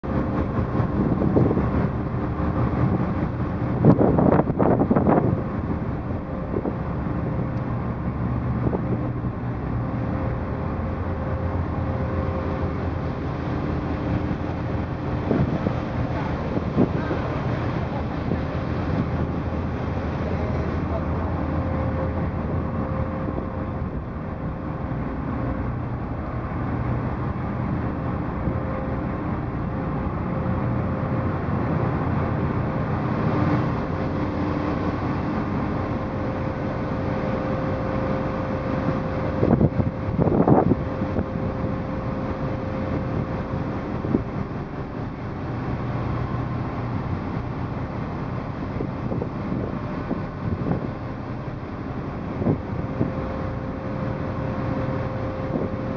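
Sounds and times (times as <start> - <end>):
ferry engine droning: 0.0 - 55.9
wind noise on microphone: 0.0 - 55.9.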